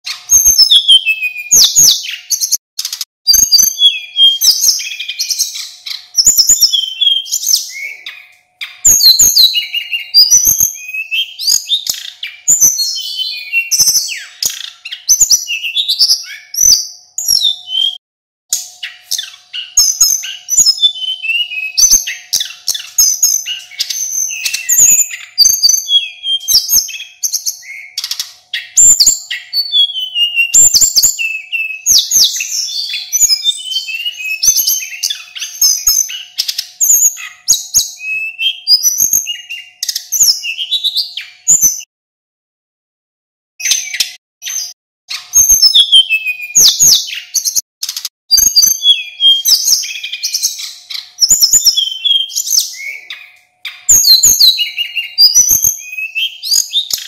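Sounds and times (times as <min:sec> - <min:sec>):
bird singing whistled phrases: 0:00.0 - 0:41.9, 0:43.6 - 0:57.0.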